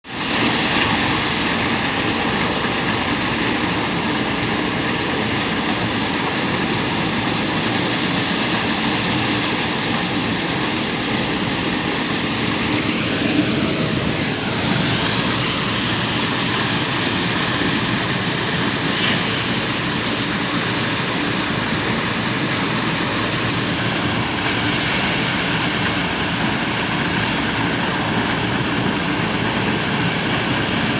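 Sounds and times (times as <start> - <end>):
machine drone: 0.1 - 30.9.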